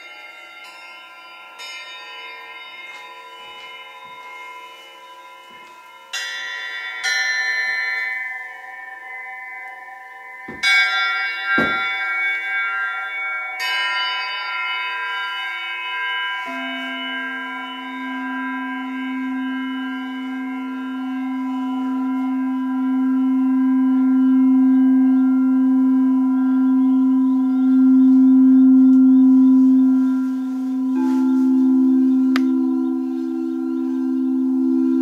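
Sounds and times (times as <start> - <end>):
metal pyramids ringing: 0.0 - 35.0
singing bowl hum: 0.0 - 35.0.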